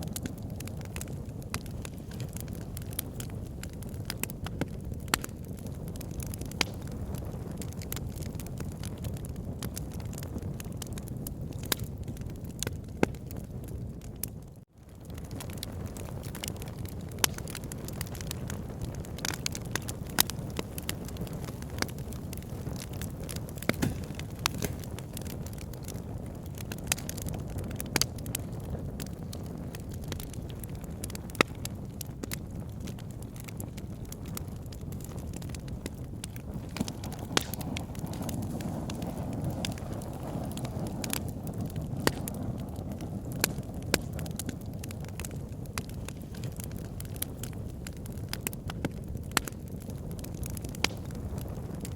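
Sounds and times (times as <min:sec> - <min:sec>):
fire flames rumbling: 0:00.0 - 0:51.9
logs crackling and popping: 0:00.0 - 0:51.9.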